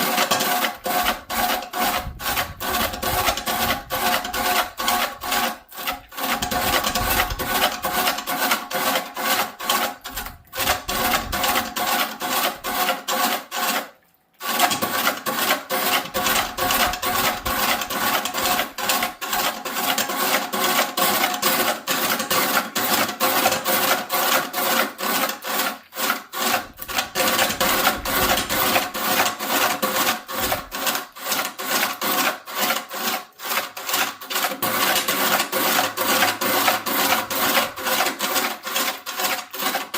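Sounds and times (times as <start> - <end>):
tool rasping wood: 0.0 - 39.9.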